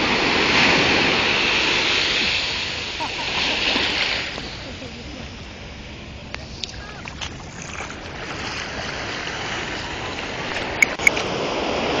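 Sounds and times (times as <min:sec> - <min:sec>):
ocean surf washing over sand: 0:00.0 - 0:12.0.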